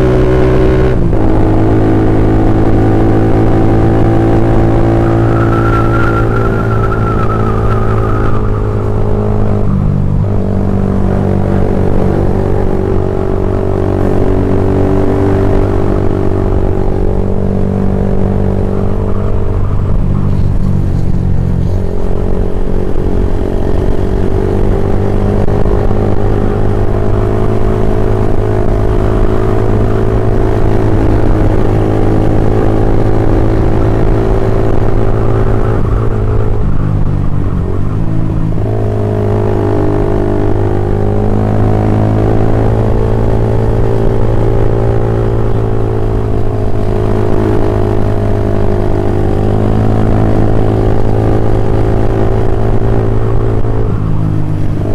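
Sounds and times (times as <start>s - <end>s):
loud motorcycle engine: 0.0s - 54.9s.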